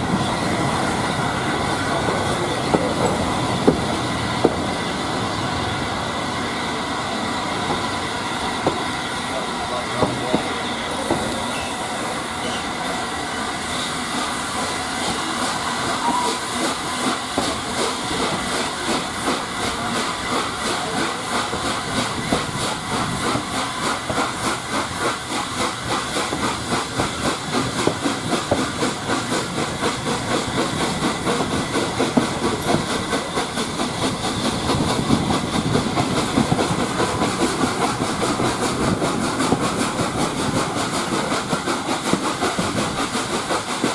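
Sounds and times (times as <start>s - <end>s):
locomotive exhaust beats: 0.0s - 13.0s, 13.7s - 43.9s
steam hissing: 0.0s - 43.9s
train wheels on rails: 0.0s - 43.9s.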